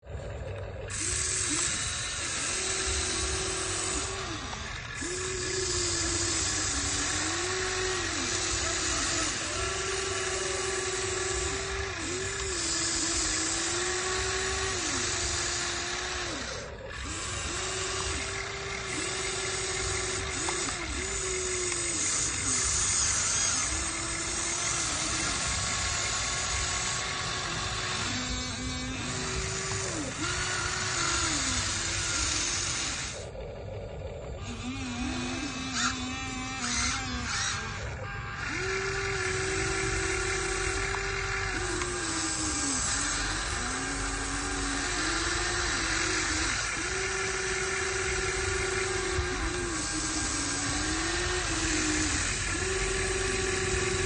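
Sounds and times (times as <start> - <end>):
gears humming: 0.0 - 54.0
small electric motors whining: 0.0 - 54.0.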